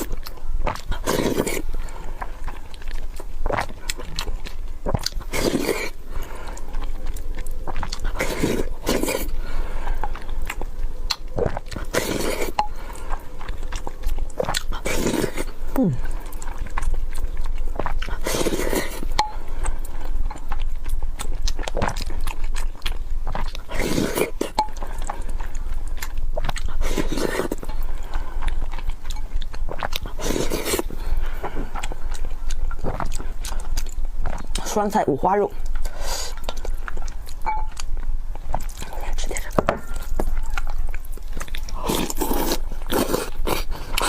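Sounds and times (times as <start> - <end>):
person chewing and mouth smacking: 0.0 - 44.0.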